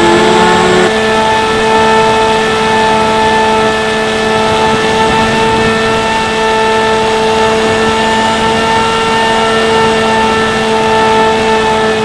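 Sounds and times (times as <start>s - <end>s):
electric motor buzzing hum: 0.0s - 12.0s.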